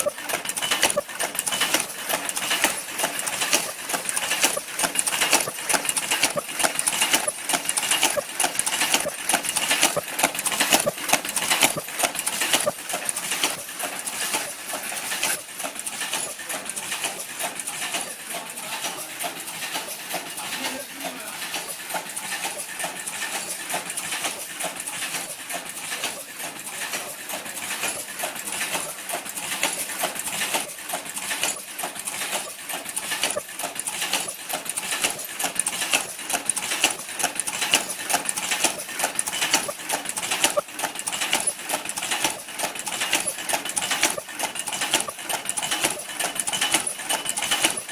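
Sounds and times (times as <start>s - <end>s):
machine clicking and clattering: 0.0s - 47.9s.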